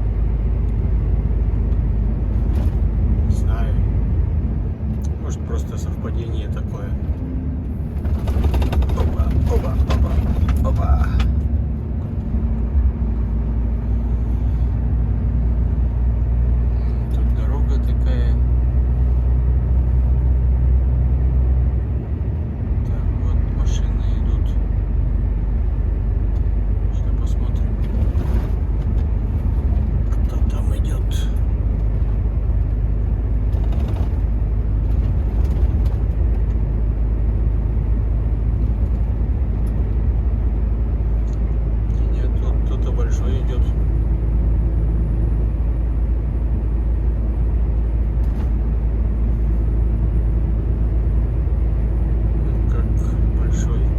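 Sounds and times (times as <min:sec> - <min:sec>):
road noise: 0:00.0 - 0:53.9
truck diesel engine drone: 0:00.0 - 0:53.9.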